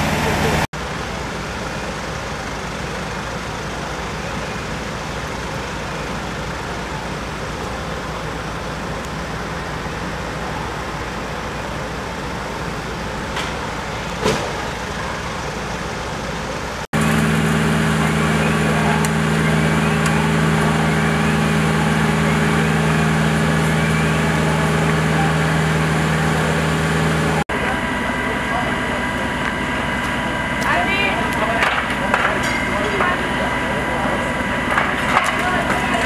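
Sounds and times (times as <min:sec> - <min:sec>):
engine low drone: 0:00.0 - 0:36.0
fire engines running: 0:00.0 - 0:36.0.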